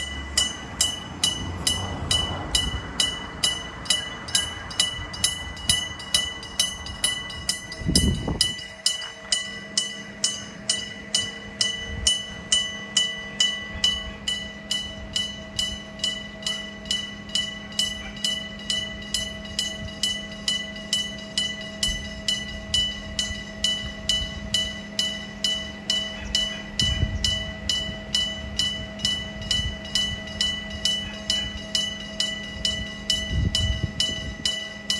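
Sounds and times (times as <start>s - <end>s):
level crossing bell ringing: 0.0s - 34.9s
train rumble: 0.0s - 34.9s.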